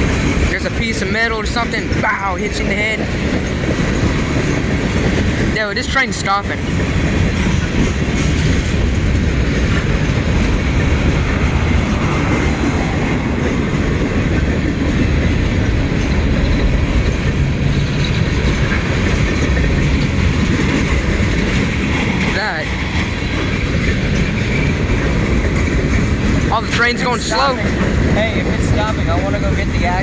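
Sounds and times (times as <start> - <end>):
clickety-clack of rail joints: 0.0 - 30.0
train wheels rumbling on rails: 0.0 - 30.0.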